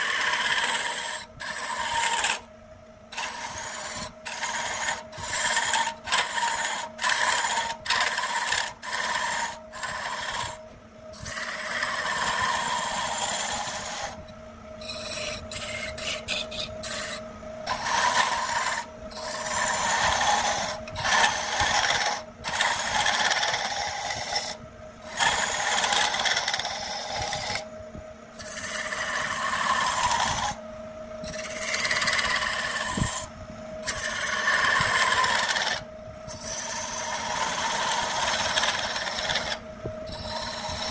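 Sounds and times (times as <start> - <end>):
gouge rasping on spinning wood: 0.0 - 2.5, 3.1 - 10.6, 11.2 - 14.2, 14.8 - 27.6, 28.4 - 30.6, 31.2 - 33.2, 33.8 - 35.8, 36.4 - 40.9
lathe hum: 0.0 - 40.9.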